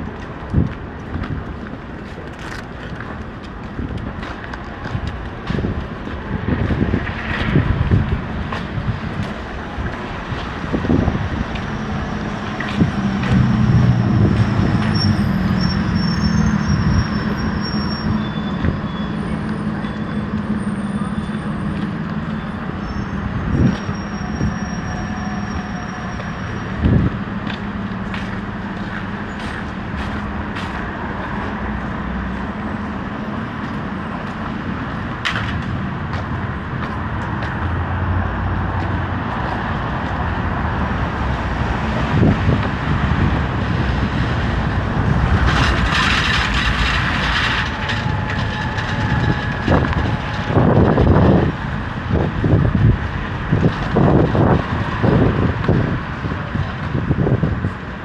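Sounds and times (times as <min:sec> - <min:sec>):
road noise: 0:00.0 - 0:58.0
vehicle engine humming: 0:00.0 - 0:58.0.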